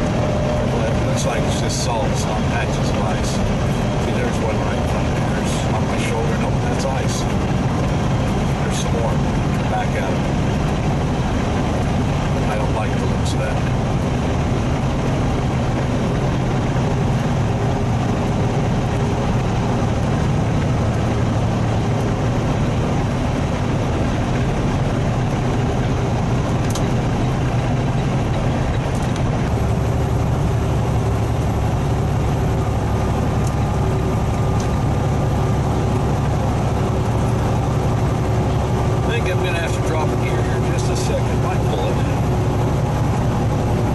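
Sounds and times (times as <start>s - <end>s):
road and tyre noise: 0.0s - 43.9s
truck engine droning: 0.0s - 43.9s.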